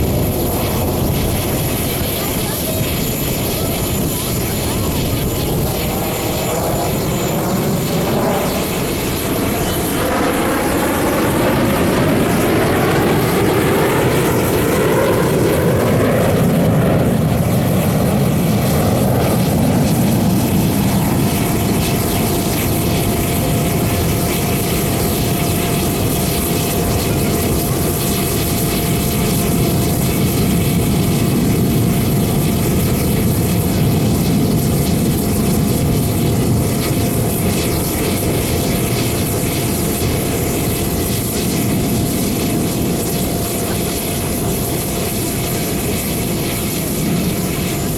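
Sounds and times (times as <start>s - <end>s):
gliding jet whine: 0.0s - 47.9s
jet roar: 0.0s - 47.9s.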